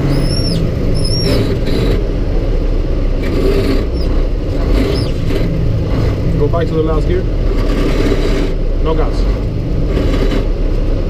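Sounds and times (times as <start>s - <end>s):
road noise: 0.0s - 11.0s
truck diesel engine rumbling: 0.0s - 11.0s.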